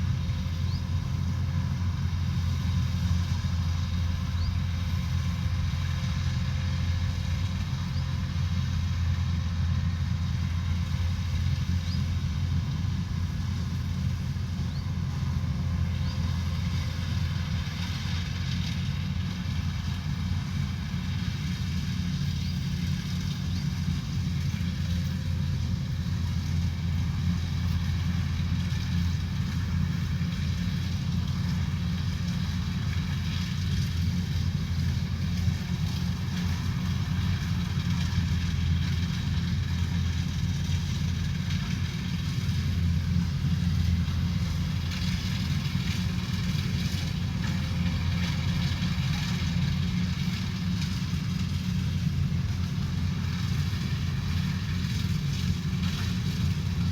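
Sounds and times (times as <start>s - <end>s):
diesel engine droning: 0.0s - 56.9s.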